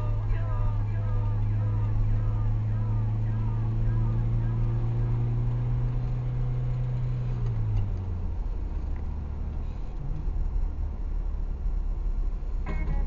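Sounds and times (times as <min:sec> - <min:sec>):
car engine running: 0:00.0 - 0:13.0
road rumble: 0:00.0 - 0:13.0.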